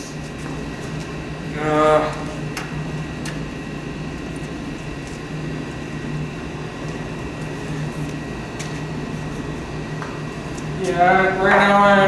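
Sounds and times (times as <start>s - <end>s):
pulsing mechanical hum: 0.0s - 12.0s.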